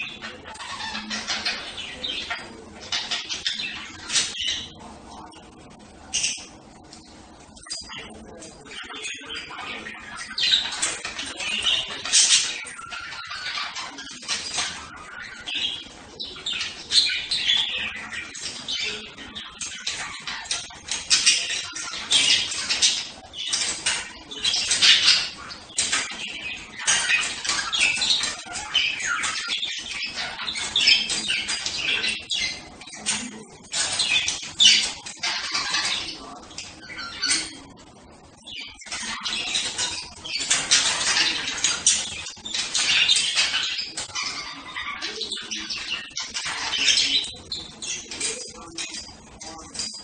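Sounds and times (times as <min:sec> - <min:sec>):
budgerigars chattering: 0:00.0 - 0:50.0.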